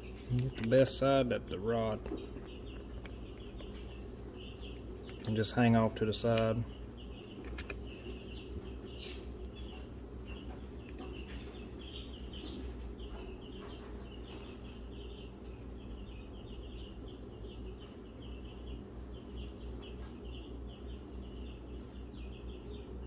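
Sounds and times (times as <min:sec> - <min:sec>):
high chirping: 0:00.0 - 0:23.0
low steady hum: 0:00.0 - 0:23.0.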